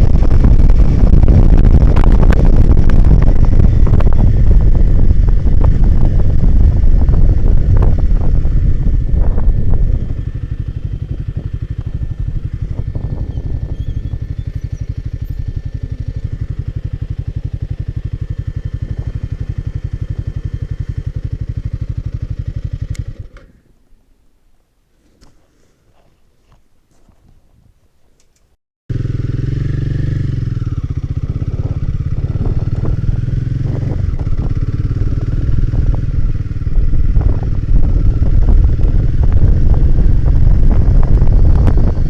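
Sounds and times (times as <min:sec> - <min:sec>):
wind on microphone: 0:00.0 - 0:22.7, 0:29.2 - 0:42.0
motorcycle engine running: 0:00.0 - 0:23.6, 0:28.9 - 0:42.0
motorcycle engine idling: 0:00.0 - 0:23.7, 0:28.9 - 0:42.0.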